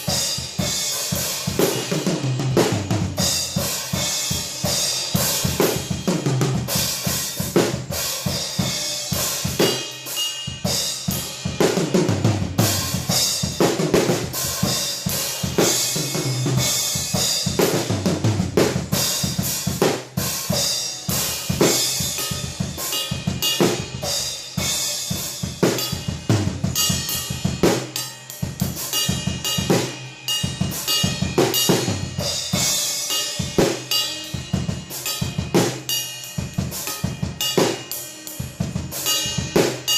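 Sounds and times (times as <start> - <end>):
drum kit playing fast groove: 0.0 - 39.9.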